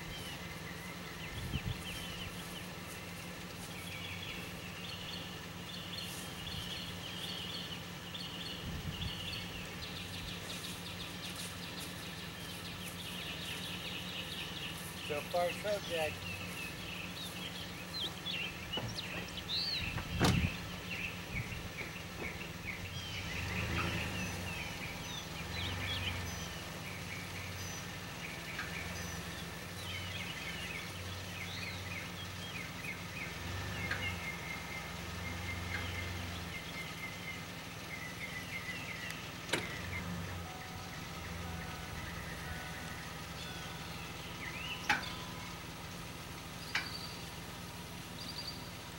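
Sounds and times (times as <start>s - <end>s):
small birds chirping: 0.0s - 48.9s
vehicle engine hum: 0.0s - 48.9s.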